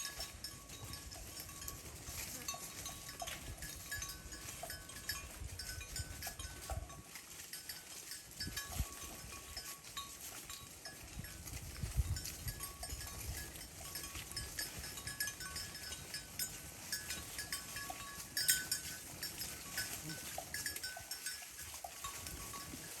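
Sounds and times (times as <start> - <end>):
cowbells clanking: 0.0 - 23.0.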